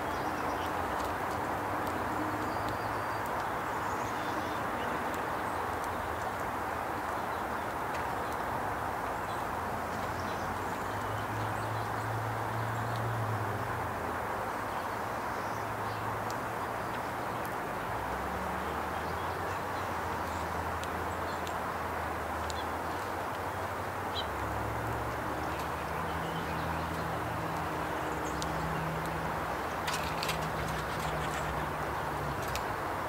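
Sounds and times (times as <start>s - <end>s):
outdoor background rush: 0.0s - 33.0s.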